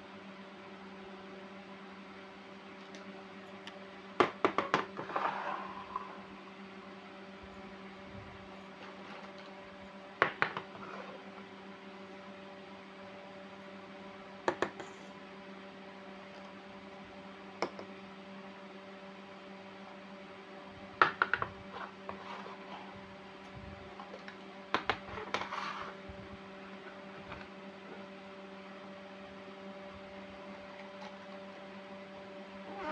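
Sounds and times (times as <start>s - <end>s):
electrical hum: 0.0s - 32.9s.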